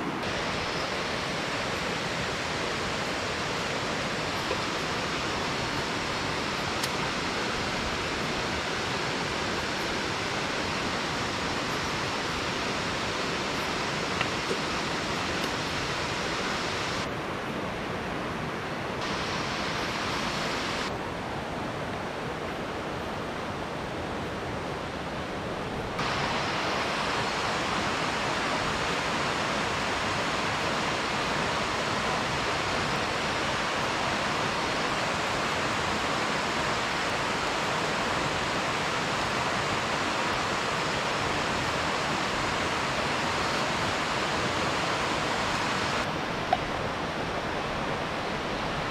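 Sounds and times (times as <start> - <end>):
river water over rocks: 0.0 - 48.9.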